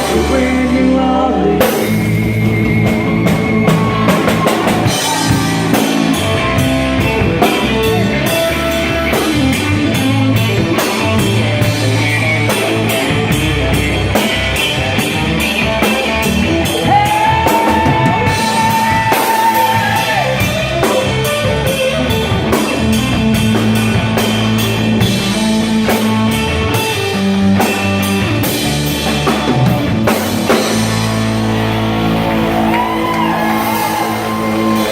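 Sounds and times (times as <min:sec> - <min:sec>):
rock band playing instrumental: 0:00.0 - 0:34.9.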